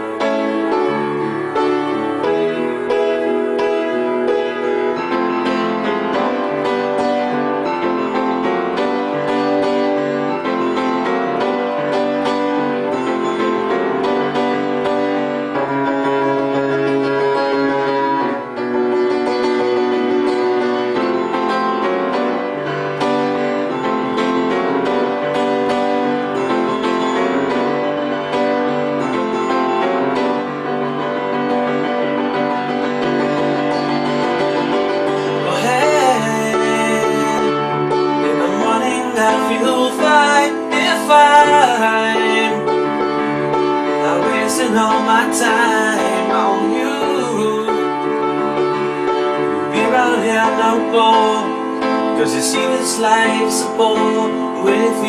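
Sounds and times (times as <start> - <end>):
piano playing sustained chords: 0.0 - 55.0.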